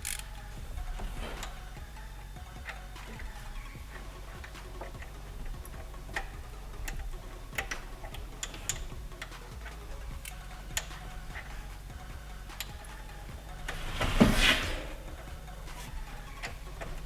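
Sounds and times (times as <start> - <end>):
hand tools clicking and clinking: 0.0 - 17.0
steady low hum: 0.0 - 17.0.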